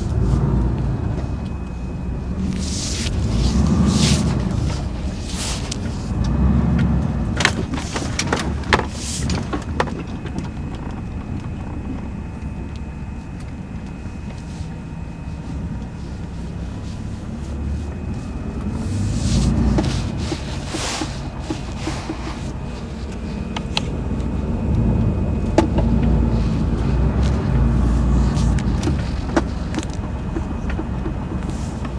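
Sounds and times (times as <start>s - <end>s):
vehicle engine rumbling: 0.0s - 31.9s.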